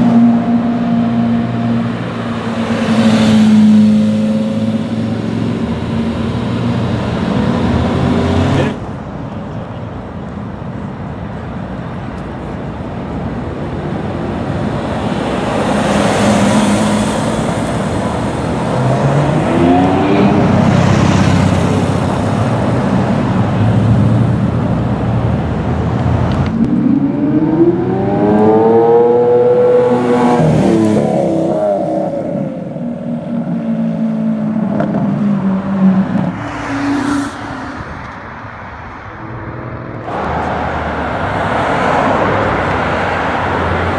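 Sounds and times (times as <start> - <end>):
sports cars revving and passing: 0.0 - 9.6, 10.6 - 43.9.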